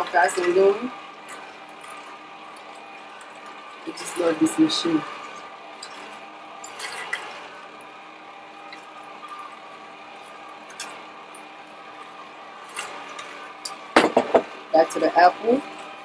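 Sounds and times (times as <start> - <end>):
juicer humming: 0.0 - 16.0
juice trickling into jug: 0.3 - 14.7.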